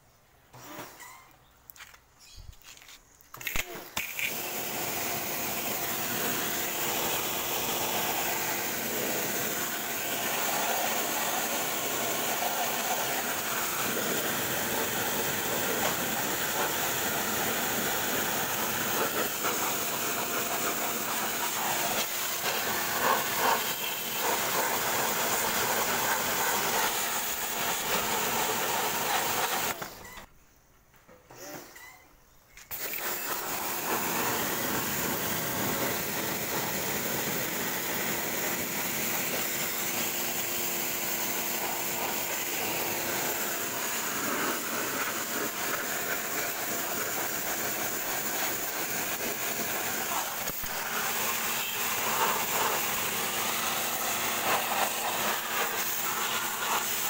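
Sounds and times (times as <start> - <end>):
pressure washer jet hissing: 3.4 - 29.8, 32.7 - 57.0.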